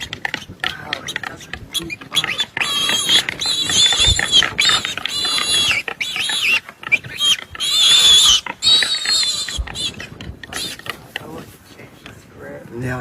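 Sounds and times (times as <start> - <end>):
animal giving high-pitched cries: 0.0 - 11.0.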